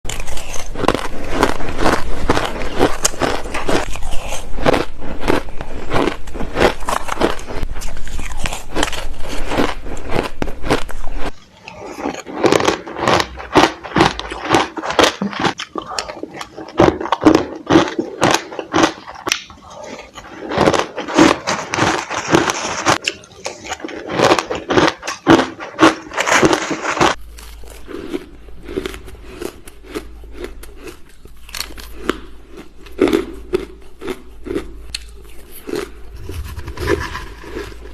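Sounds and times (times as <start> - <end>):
crushed ice crunching: 0.1 - 29.6, 35.5 - 37.9.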